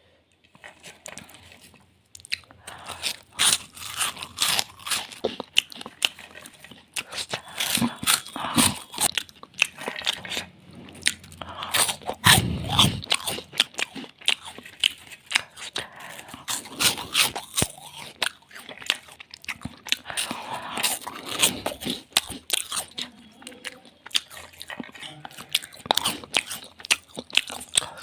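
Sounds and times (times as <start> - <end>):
crunching and chewing snacks: 0.4 - 28.0.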